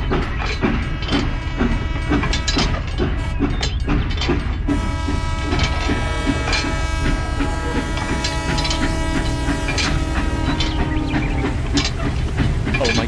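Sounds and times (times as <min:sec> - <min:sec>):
toy locomotive chugging: 0:00.0 - 0:13.0.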